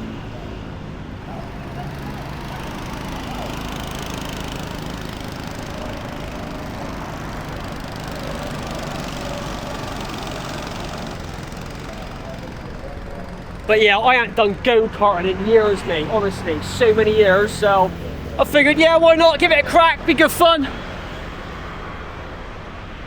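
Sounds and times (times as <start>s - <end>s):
go-kart engines droning: 0.0s - 23.0s.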